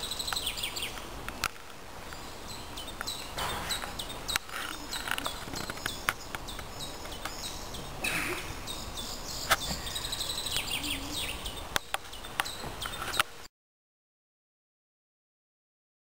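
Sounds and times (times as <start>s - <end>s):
songbirds chirping and trilling: 0.0s - 13.5s.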